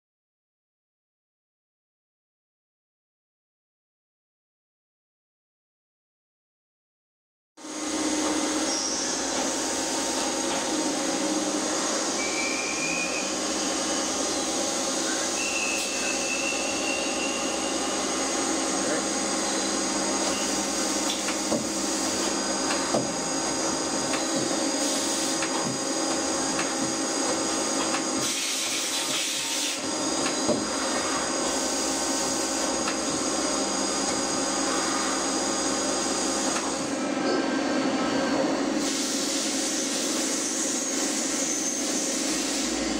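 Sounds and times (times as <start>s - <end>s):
lathe machine hum and whine: 7.6s - 42.9s.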